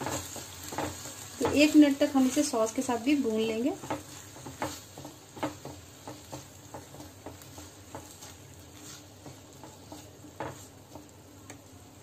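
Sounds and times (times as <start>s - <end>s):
faint sizzle: 0.0s - 12.0s
spatula tapping and scraping pan: 0.0s - 12.0s.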